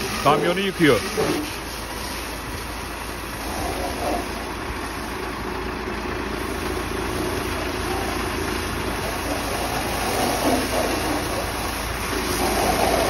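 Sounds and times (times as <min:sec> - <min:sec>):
diesel engine idling: 0:00.0 - 0:13.0
hose water jet spraying: 0:00.0 - 0:13.0.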